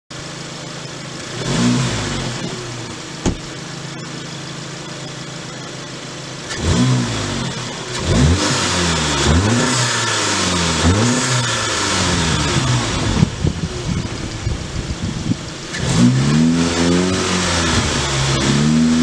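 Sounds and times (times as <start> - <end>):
car engine idling and revving: 0.1 - 19.0.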